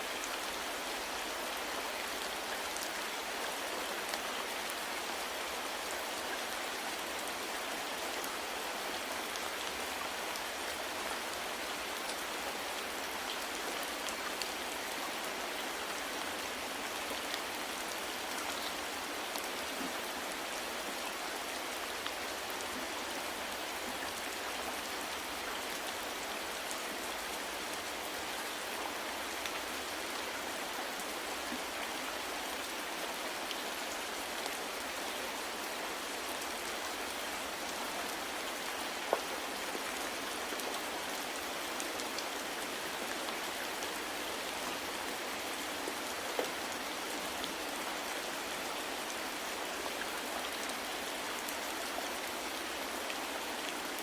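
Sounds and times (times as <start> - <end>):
soft rain patter: 0.0 - 54.0.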